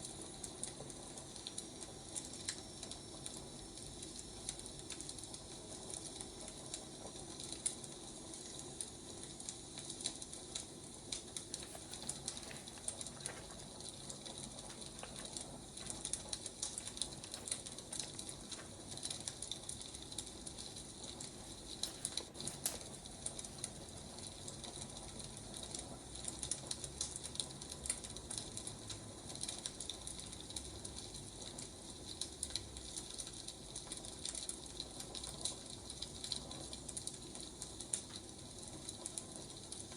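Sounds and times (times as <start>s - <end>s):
fire crackles and pops: 0.0s - 39.9s
firewood burning with hiss: 0.0s - 39.9s.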